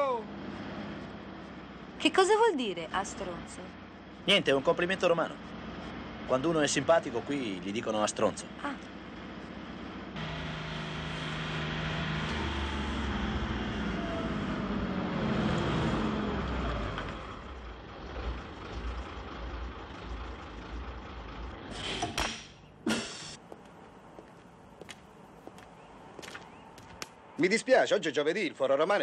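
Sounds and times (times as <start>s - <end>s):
bus engine running: 0.0s - 27.4s.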